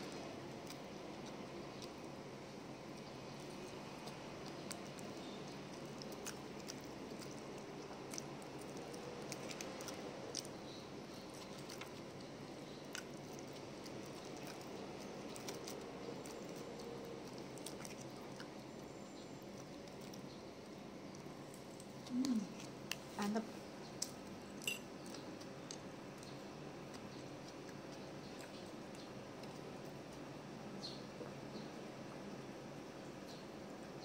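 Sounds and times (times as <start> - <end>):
soft chewing: 0.0 - 34.0.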